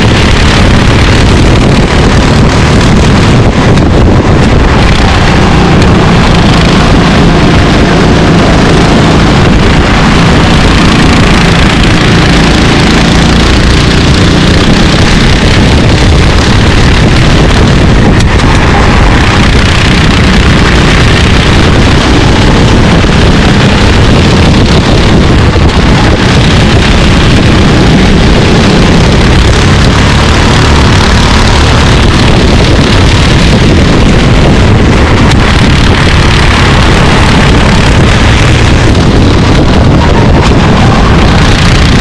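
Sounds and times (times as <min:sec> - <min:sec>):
kart engines racing: 0:00.0 - 0:42.0
wind noise on microphone: 0:00.0 - 0:42.0.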